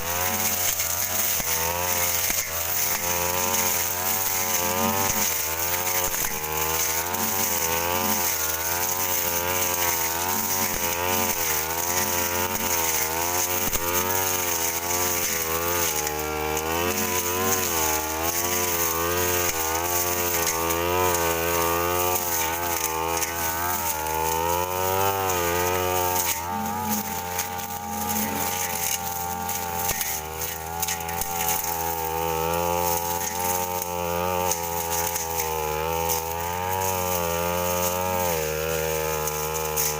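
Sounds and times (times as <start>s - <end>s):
blade cutting weeds clicks: 0.0s - 39.9s
brush cutter engine running: 0.0s - 39.9s.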